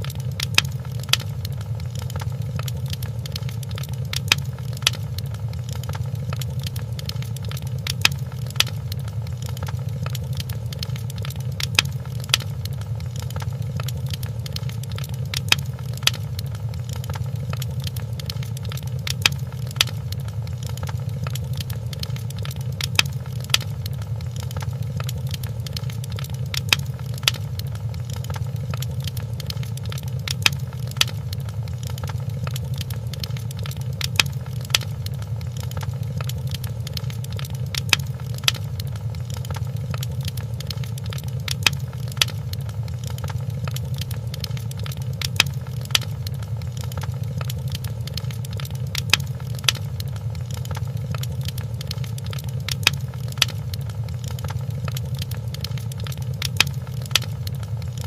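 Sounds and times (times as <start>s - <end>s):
sharp pops of fire: 0.0s - 58.0s
wood fire crackling: 0.0s - 58.0s.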